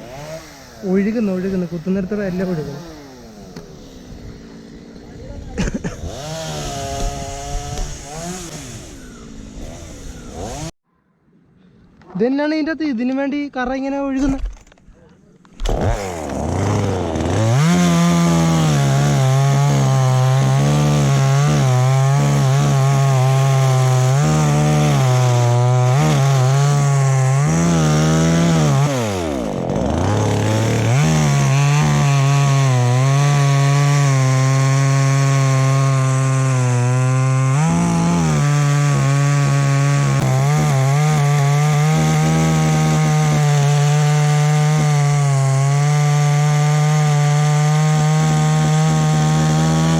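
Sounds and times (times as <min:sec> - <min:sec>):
chainsaw cutting into tree: 0:00.0 - 0:10.8, 0:15.5 - 0:49.9.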